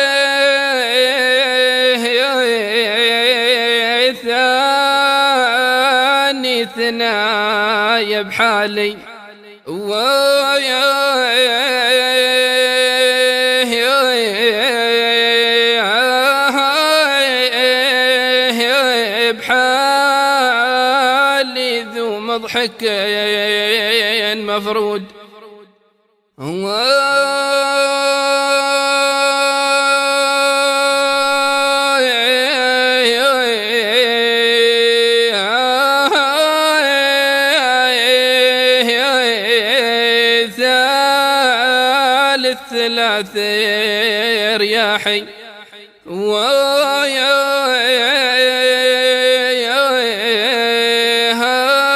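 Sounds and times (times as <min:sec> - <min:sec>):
man singing unaccompanied: 0:00.0 - 0:25.7, 0:26.4 - 0:51.9.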